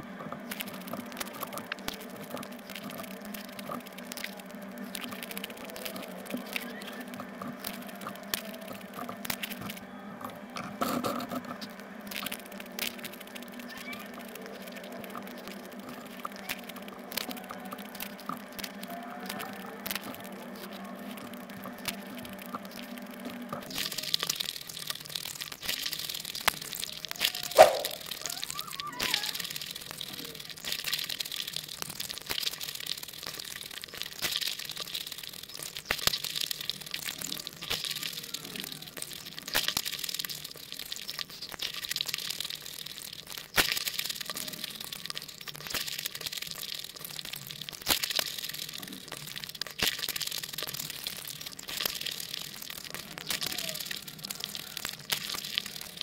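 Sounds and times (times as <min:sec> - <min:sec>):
crunching of crisp shells: 0:10.8 - 0:56.0.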